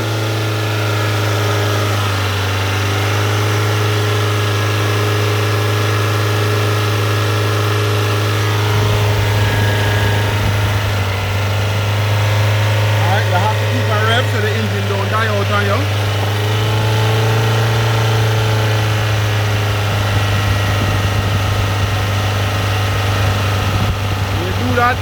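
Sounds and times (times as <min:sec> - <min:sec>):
car engine running at raised speed: 0:00.0 - 0:25.0
cleaner spraying: 0:00.6 - 0:25.0.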